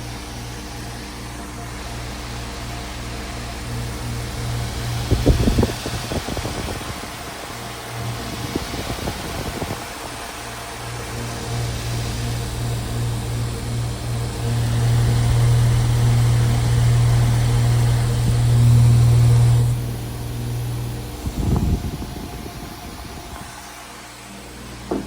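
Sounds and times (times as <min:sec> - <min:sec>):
compressor hum: 0:00.0 - 0:25.0
condenser fan rushing air: 0:00.0 - 0:25.0.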